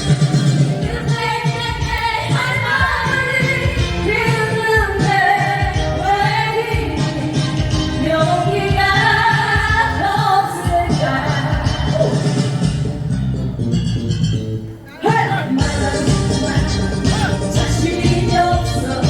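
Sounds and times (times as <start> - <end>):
women singing: 0.0 - 12.7, 15.0 - 19.0
musical accompaniment: 0.0 - 19.0.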